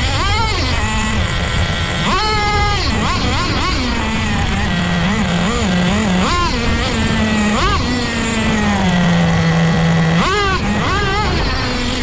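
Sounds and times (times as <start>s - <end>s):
rc car motor revving: 0.0s - 12.0s.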